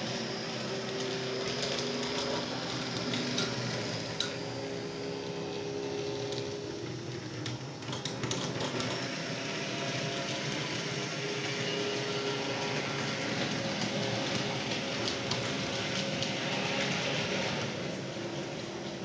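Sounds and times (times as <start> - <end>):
model tram motors whirring: 0.0 - 19.0.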